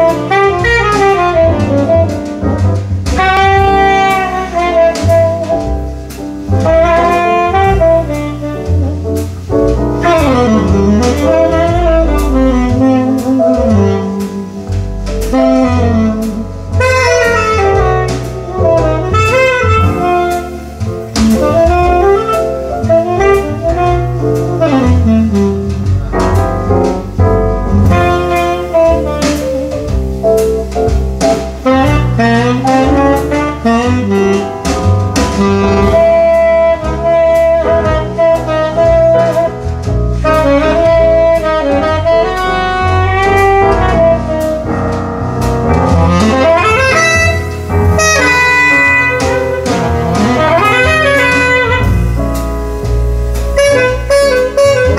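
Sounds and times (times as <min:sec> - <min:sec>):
drums: 0:00.0 - 0:54.9
jazz saxophone solo: 0:00.0 - 0:54.9
walking bass: 0:00.0 - 0:54.9.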